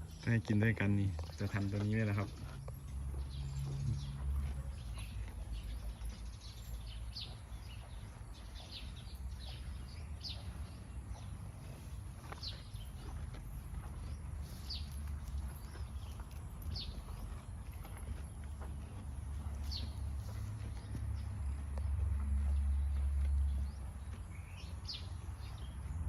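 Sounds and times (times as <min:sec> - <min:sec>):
cattle chewing grass: 0:00.0 - 0:26.0.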